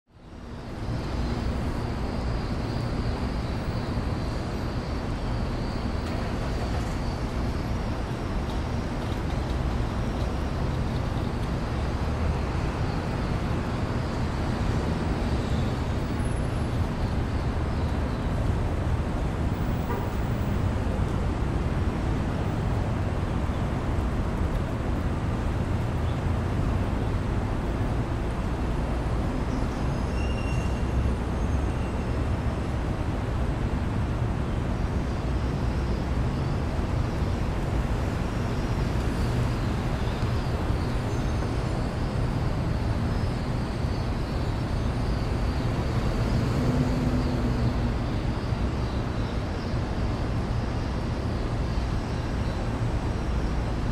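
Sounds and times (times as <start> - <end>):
low city rumble: 0.1 - 53.9.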